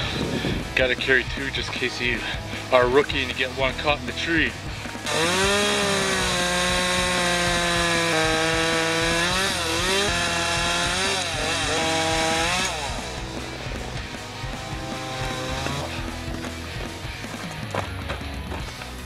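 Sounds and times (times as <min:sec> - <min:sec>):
chainsaw cutting wood: 0:01.6 - 0:17.9.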